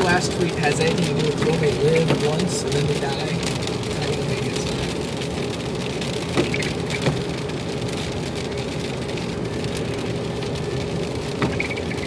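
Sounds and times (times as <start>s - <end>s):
road and rain noise inside car: 0.0s - 12.0s.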